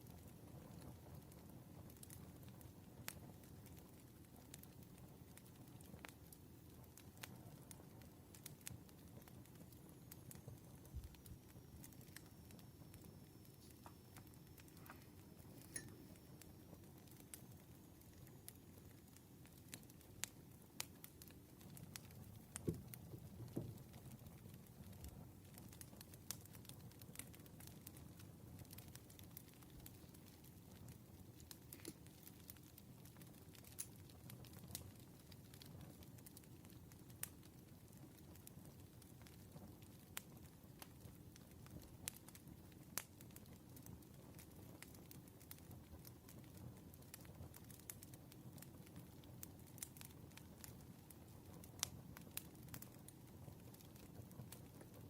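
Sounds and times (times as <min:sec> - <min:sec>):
campfire crackling: 0:00.0 - 0:55.0
low rumble of burning fire: 0:00.0 - 0:55.0
sharp pops of fire: 0:00.0 - 0:55.0.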